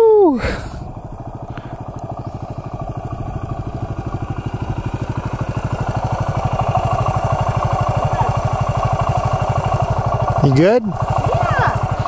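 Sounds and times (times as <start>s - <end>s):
dirt bike engine idling: 0.0s - 12.0s
motorcycle riding up: 0.0s - 12.0s.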